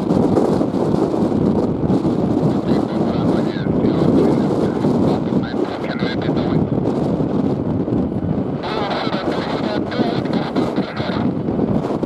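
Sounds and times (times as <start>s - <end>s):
jet engines roaring: 0.0s - 12.0s
wind buffeting microphone: 0.0s - 12.0s.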